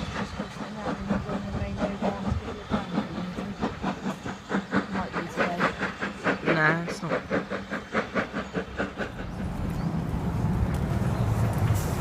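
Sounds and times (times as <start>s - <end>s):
steam locomotive hissing: 0.0s - 12.0s
train wheels clacking: 0.0s - 12.0s.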